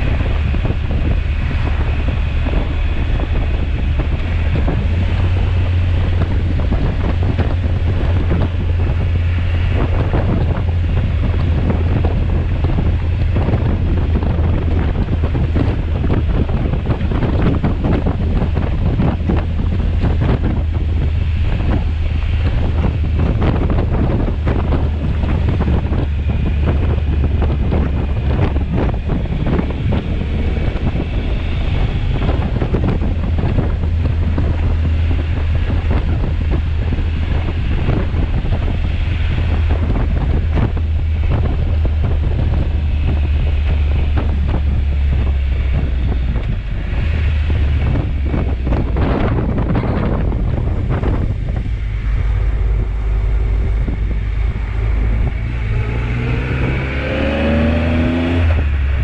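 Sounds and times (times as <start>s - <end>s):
motorcycle engine rumble: 0.0s - 59.0s
wind buffeting microphone: 0.0s - 59.0s.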